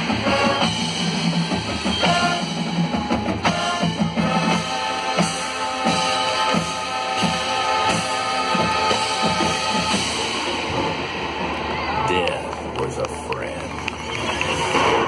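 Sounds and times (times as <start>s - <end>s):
drums and percussion: 0.0s - 15.0s
marching band playing: 0.0s - 15.0s.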